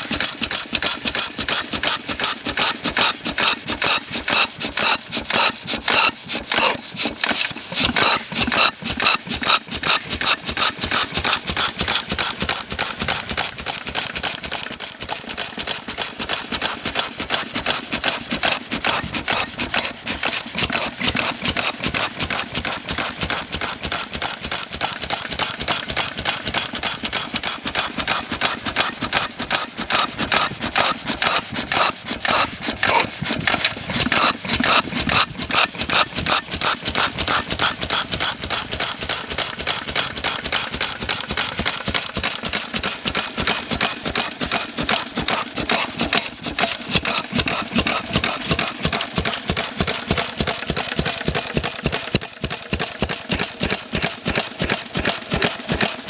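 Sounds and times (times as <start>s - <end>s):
stationary engine clattering: 0.0s - 56.0s.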